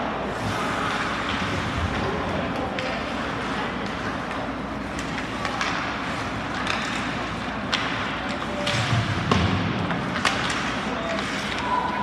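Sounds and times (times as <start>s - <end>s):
crowd noise: 0.0s - 12.0s
hockey sticks and puck clacking: 0.0s - 12.0s.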